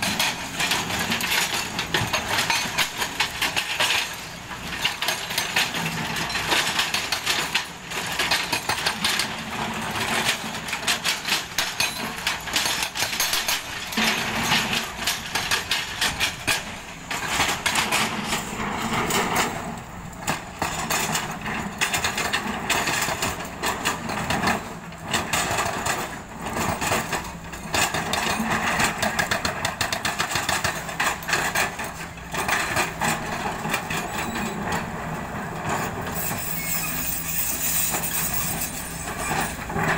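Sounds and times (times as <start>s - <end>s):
hydraulic breaker hammering rock: 0.0s - 35.0s.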